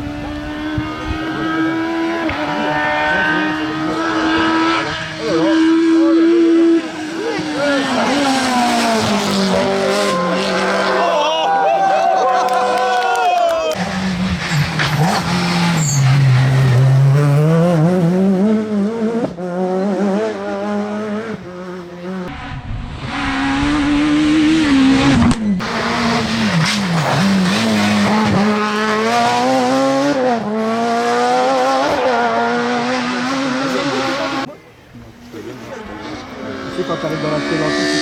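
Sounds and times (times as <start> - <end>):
rally car engines revving hard: 0.0 - 12.9, 13.7 - 38.0.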